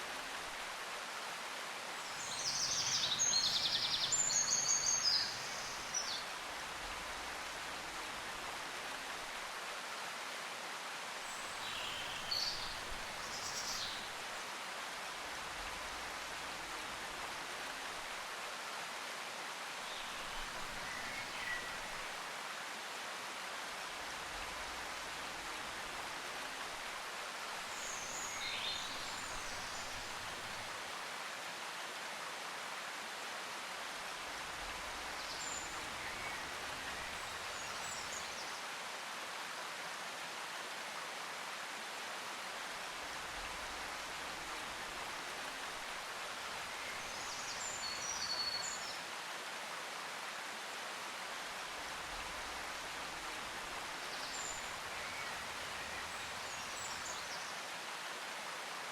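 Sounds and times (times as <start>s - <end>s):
steady outdoor hiss: 0.0s - 58.9s.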